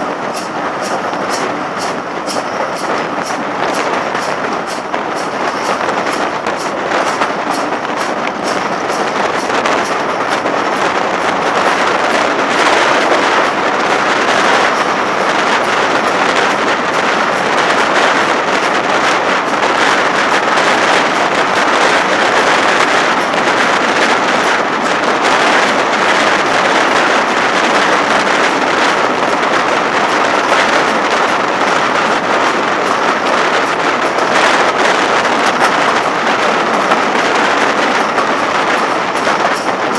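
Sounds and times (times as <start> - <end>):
light rhythmic clicking of wheels: 0.0 - 20.5, 21.1 - 39.9
train wheels rushing on rails: 0.0 - 39.9.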